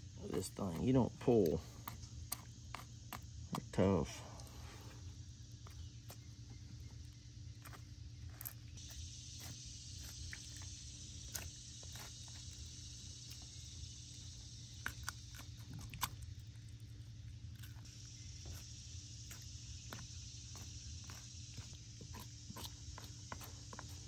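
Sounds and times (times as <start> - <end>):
high insect hiss: 0.0 - 24.0
steady low hum: 0.0 - 24.0.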